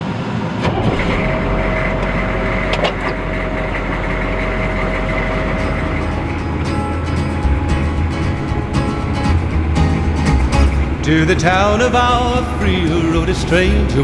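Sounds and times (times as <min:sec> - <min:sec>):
vehicle engine rumbling: 0:00.0 - 0:14.0
faint steady whine: 0:00.9 - 0:14.0.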